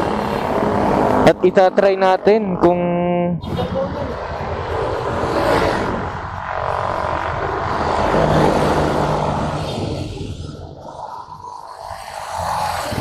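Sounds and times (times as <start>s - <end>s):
motor scooter engines: 0.0s - 13.0s
wind rush on microphone: 0.0s - 13.0s.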